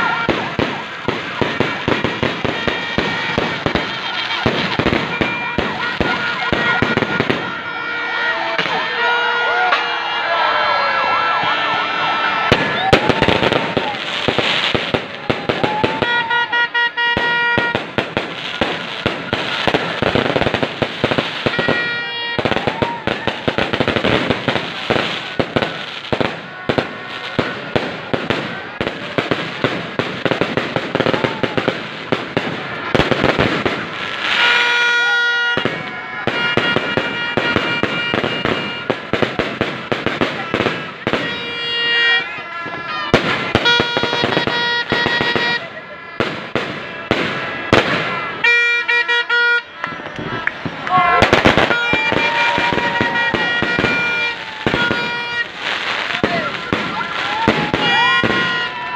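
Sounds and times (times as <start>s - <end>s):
fireworks crackling and banging: 0.0s - 58.9s.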